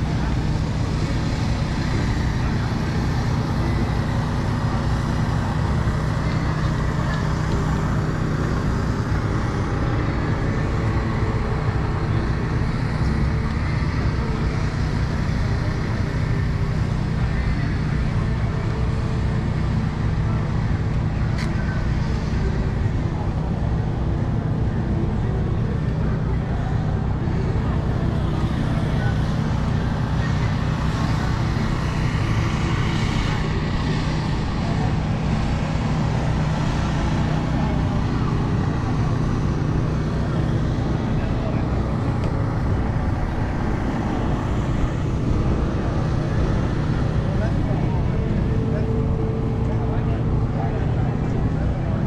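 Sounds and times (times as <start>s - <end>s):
murmur of voices: 0.0s - 52.0s
small engine running steadily: 0.0s - 52.0s.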